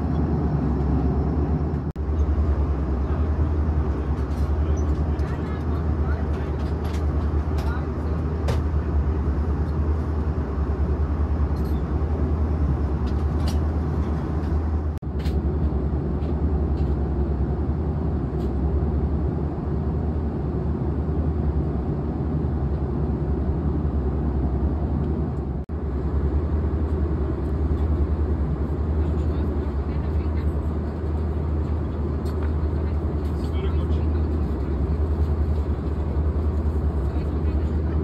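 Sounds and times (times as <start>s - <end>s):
airliner cabin drone: 0.0s - 38.0s.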